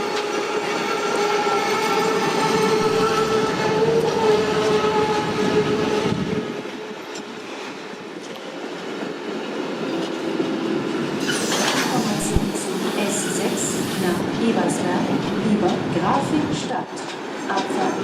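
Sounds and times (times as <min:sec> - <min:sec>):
train rail noise: 0:00.0 - 0:18.0.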